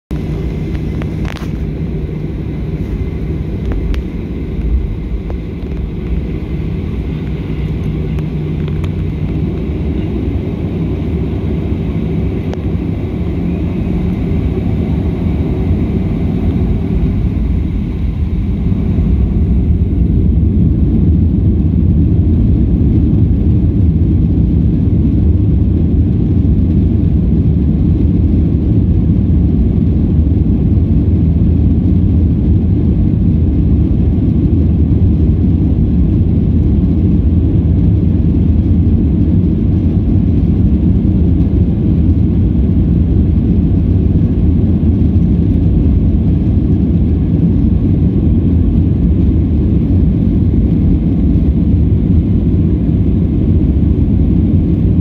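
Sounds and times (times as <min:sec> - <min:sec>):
jet airliner cabin rumble: 0:00.1 - 0:55.0.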